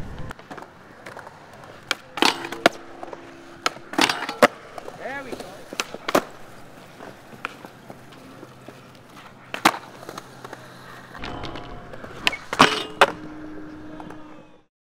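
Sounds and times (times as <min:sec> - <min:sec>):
skateboard clacks: 0:00.0 - 0:14.3
skateboard wheels rolling: 0:00.0 - 0:14.6
skateboard grinding metal rail: 0:00.5 - 0:14.5.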